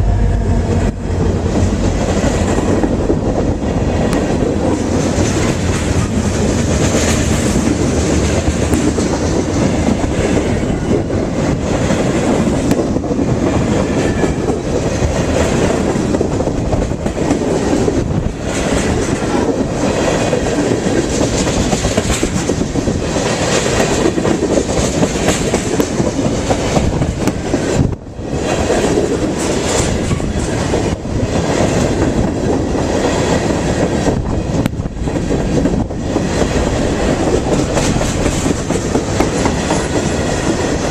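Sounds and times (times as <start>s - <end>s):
train wheels on rail: 0.0s - 40.9s.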